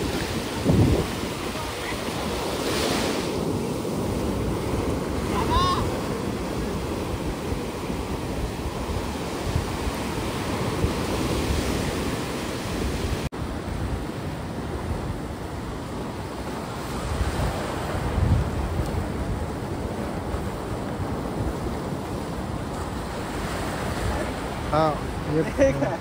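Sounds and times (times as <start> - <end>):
sea surf breaking: 0.0 - 26.0
wind rumbling on microphone: 0.0 - 26.0.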